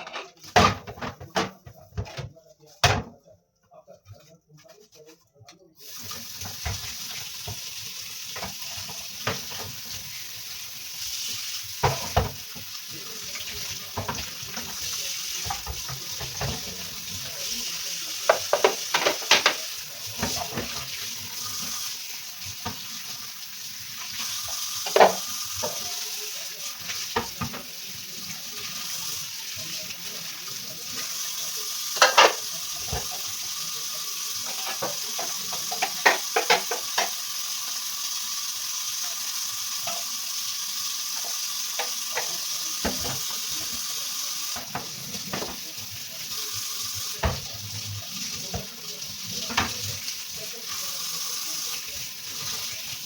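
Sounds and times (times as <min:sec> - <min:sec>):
water running from a tap: 0:05.8 - 0:53.0.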